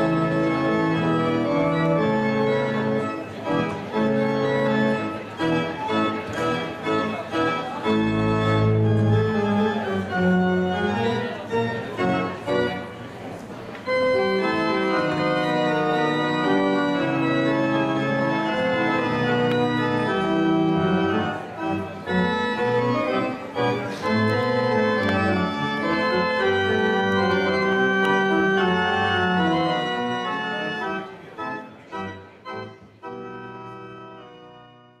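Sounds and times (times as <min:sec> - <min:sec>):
church pipe organ chords: 0:00.0 - 0:13.0, 0:13.8 - 0:35.0.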